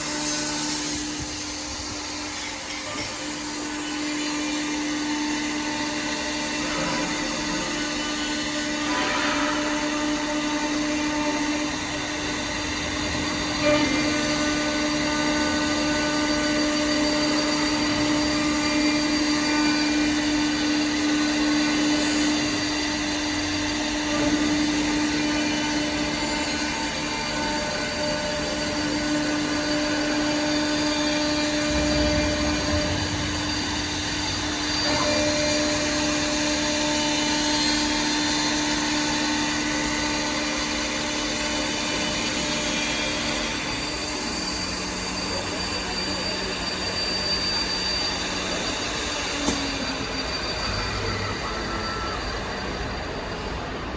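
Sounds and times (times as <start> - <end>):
spindle motors whining: 0.0 - 53.9.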